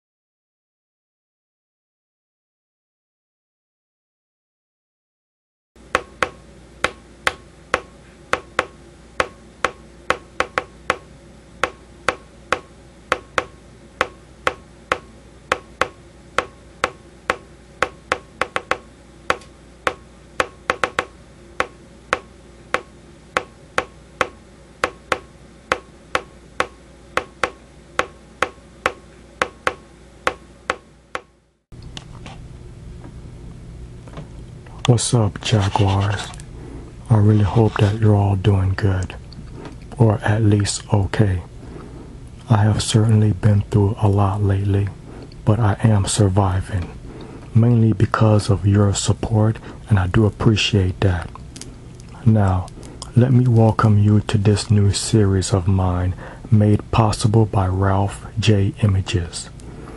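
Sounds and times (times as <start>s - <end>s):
buzzy low hum: 5.8s - 59.9s
steady low hum: 5.8s - 59.9s.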